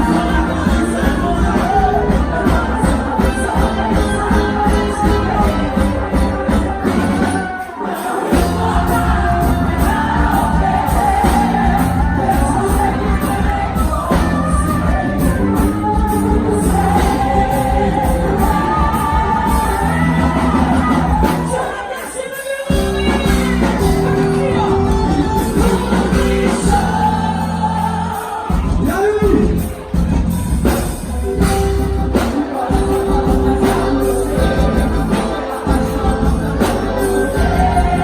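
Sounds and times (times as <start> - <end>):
person singing: 0.0 - 30.1, 31.6 - 38.0
band with heavy bass: 0.0 - 38.0.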